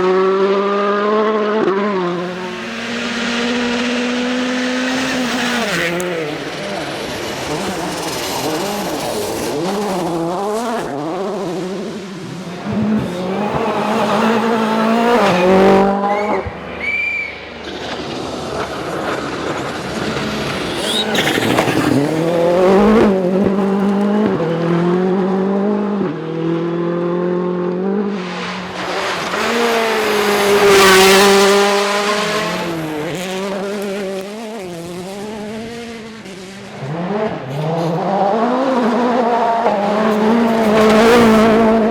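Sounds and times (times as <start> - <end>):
rally car engines revving: 0.0 - 41.9.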